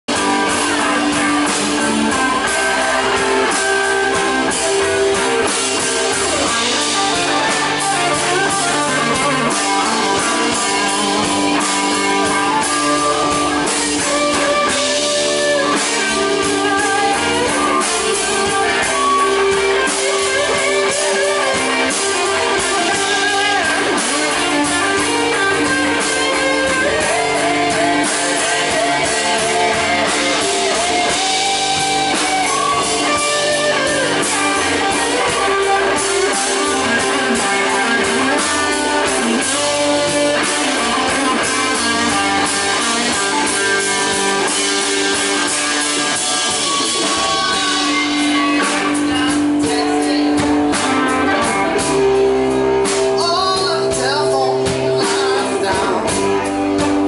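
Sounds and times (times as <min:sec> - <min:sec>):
electric guitar lead: 0:00.0 - 0:57.0
live blues band: 0:00.0 - 0:57.0.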